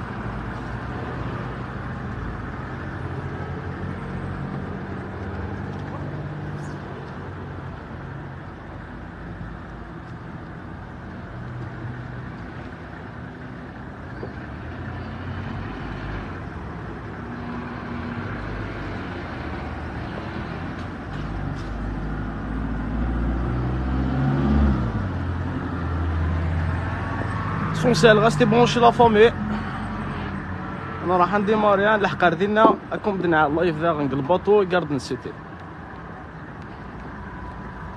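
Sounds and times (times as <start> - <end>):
bus engines running: 0.0 - 37.9.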